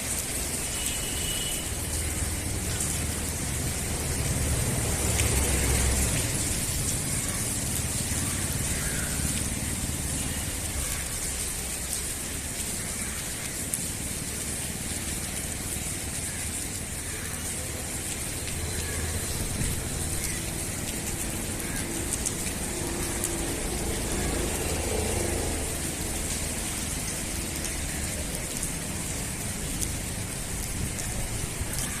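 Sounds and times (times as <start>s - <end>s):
heavy rain hissing: 0.0s - 32.0s.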